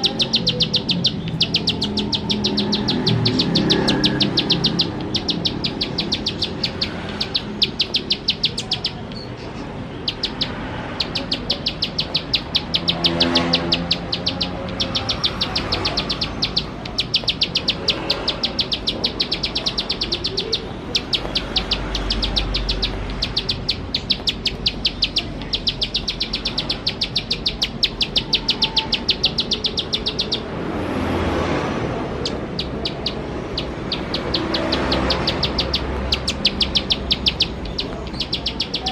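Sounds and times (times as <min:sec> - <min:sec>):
bird rapid ticking song: 0:00.0 - 0:38.9.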